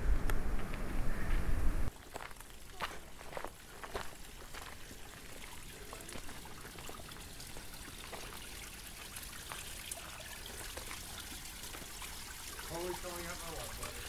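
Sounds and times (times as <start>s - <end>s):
water trickling: 1.9s - 14.0s.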